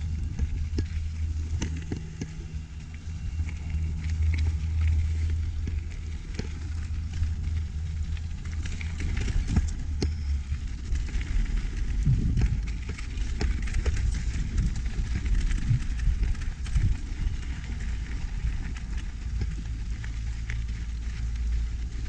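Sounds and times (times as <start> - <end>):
wind on microphone: 0.0 - 20.7
gravel and bike rattling: 0.0 - 22.0
tyres rumbling on gravel: 0.0 - 22.0.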